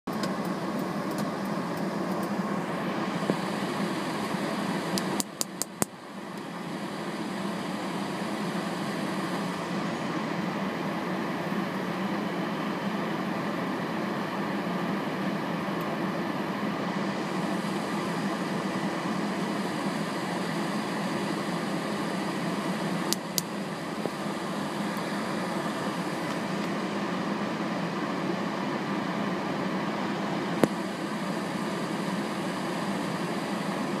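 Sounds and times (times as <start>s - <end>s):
steady machine hum: 0.1s - 34.0s.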